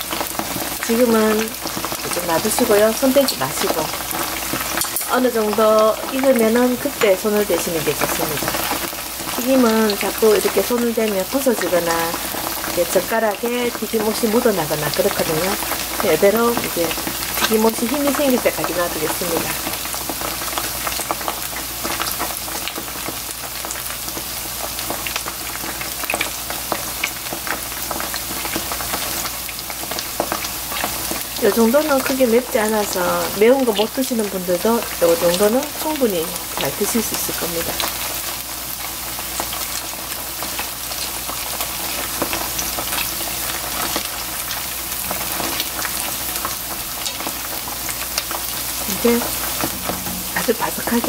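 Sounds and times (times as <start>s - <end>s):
deep-frying sizzle with pops: 0.0s - 51.0s.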